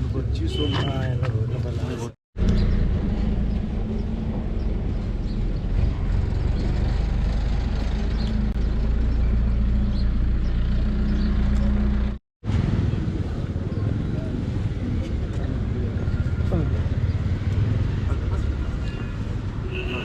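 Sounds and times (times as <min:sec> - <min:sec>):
engine rumbling: 0:01.2 - 0:19.6.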